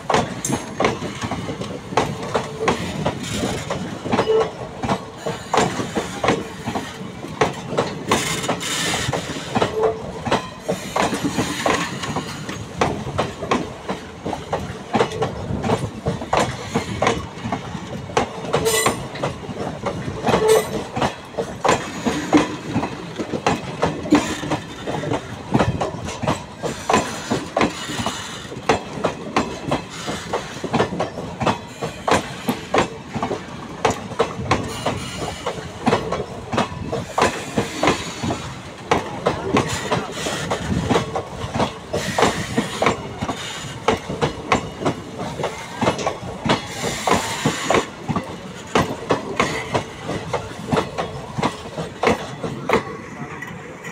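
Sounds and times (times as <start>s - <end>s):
train rumble: 0.0s - 53.9s
train wheels clickety-clack: 0.0s - 53.9s.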